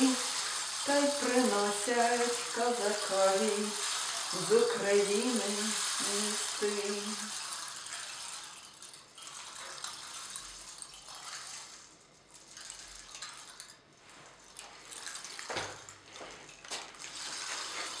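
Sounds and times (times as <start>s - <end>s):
ocean drum beads rolling: 0.0s - 18.0s.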